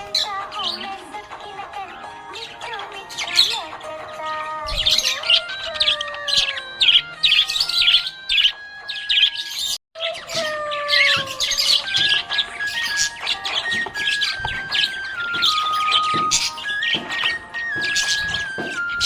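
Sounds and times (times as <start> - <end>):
budgerigar chirping: 1.8 - 19.0.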